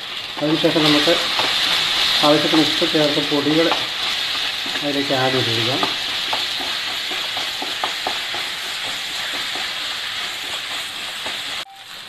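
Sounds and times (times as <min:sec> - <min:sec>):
onions sizzling in hot oil: 0:00.0 - 0:12.0
spatula scraping pan: 0:00.3 - 0:11.6.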